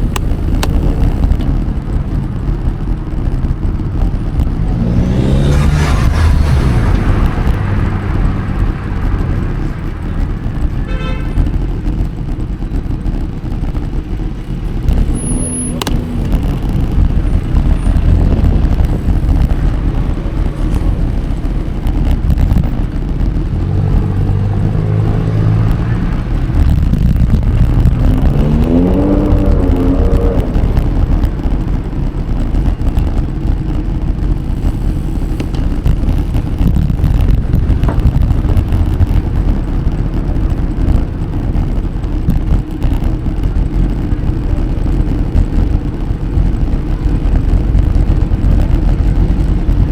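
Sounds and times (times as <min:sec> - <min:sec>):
engine accelerating: 0:00.0 - 0:49.9
road traffic rumble: 0:00.0 - 0:49.9.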